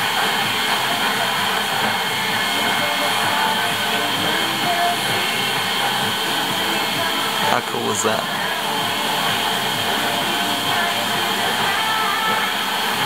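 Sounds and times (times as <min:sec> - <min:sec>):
blower rushing air: 0:00.0 - 0:13.0.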